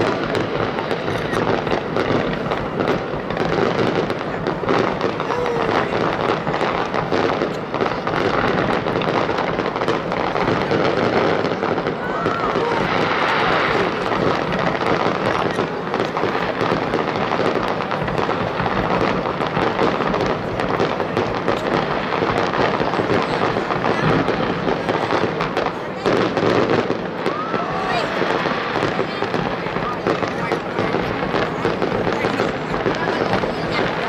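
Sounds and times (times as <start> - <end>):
fireworks bursting: 0.0 - 34.0.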